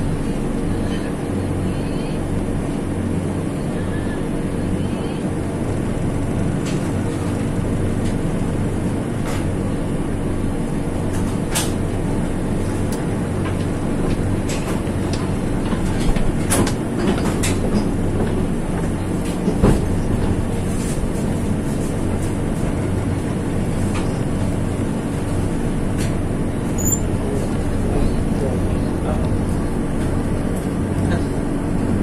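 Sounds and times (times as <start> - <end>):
train rumble and hum: 0.0 - 32.0.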